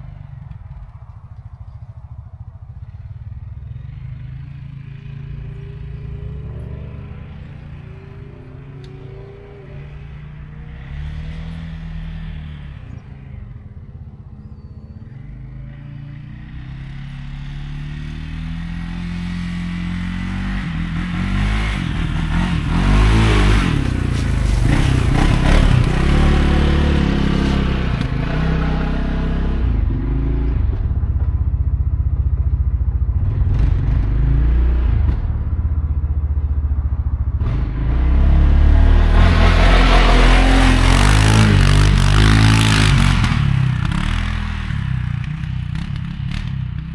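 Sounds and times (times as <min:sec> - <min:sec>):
quad bike engine revving: 0:00.0 - 0:46.9.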